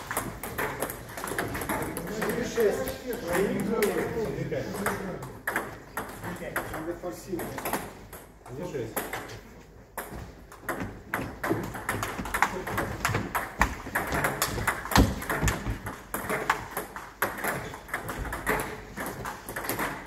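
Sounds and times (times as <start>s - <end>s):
table tennis balls clicking: 0.0s - 20.0s.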